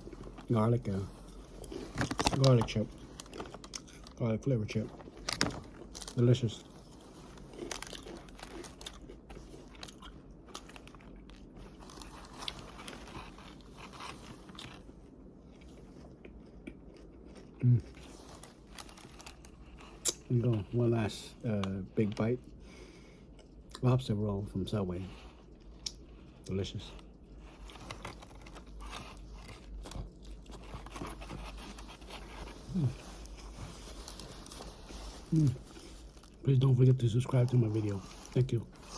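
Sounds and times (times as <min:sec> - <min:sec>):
potato chip crunching: 0:00.0 - 0:14.9, 0:16.4 - 0:21.2, 0:25.1 - 0:38.9.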